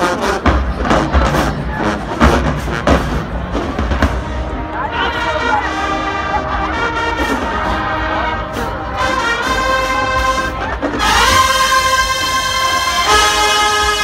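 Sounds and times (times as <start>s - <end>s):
brass section playing chords: 0.0s - 14.0s.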